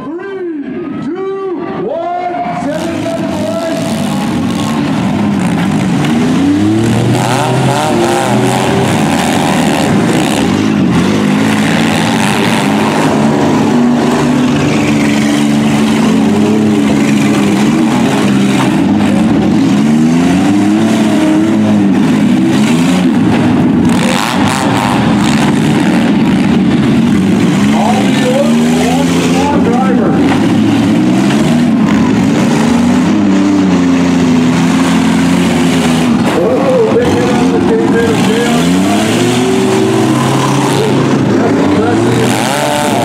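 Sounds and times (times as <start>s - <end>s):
engines revving hard: 2.4s - 43.0s.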